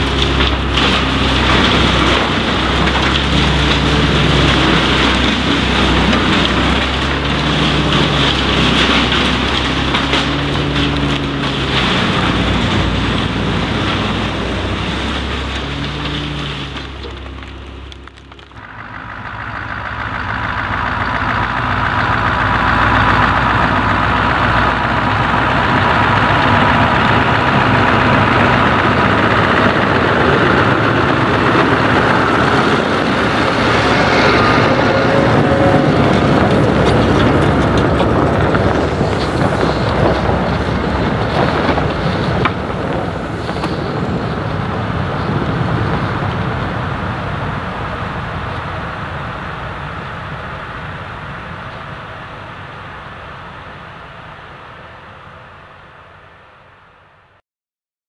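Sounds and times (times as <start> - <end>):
wood chipper chipping branches: 0.0 - 53.3
truck engine passing by: 0.0 - 56.4.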